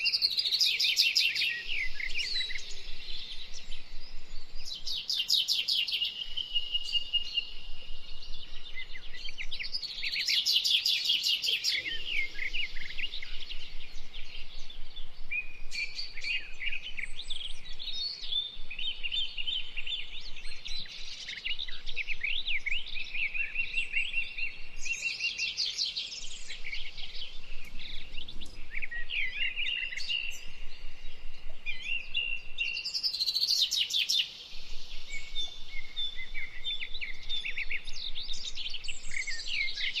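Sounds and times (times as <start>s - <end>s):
birds chirping and trilling: 0.0s - 40.0s.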